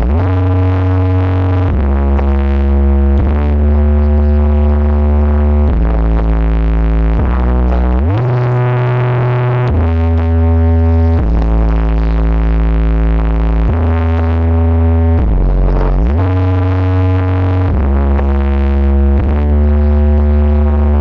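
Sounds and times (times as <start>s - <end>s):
heavy synth bass notes: 0.0s - 21.0s.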